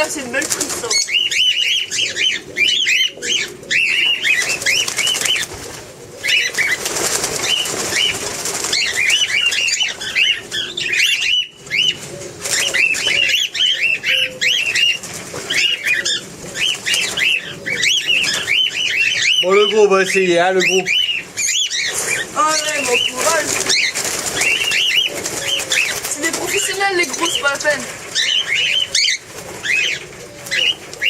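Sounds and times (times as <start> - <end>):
small birds chirping: 0.0 - 31.0
wings flapping: 0.0 - 31.0.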